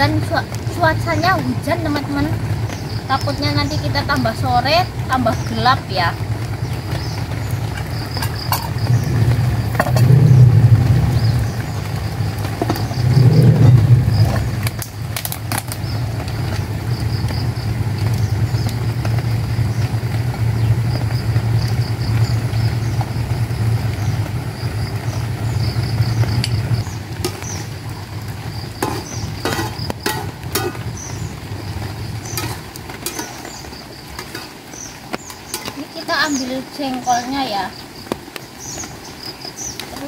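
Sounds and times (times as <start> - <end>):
low motor hum: 0.0 - 35.2.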